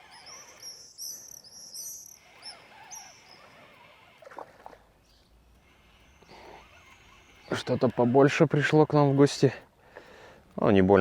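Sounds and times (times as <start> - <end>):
songbird chirping: 0.0 - 10.8
faint outdoor hiss: 0.0 - 11.0.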